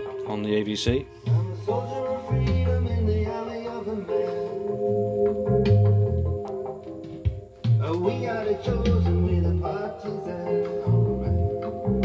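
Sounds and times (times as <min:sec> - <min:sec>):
music with chords and bass line: 0:00.0 - 0:12.0.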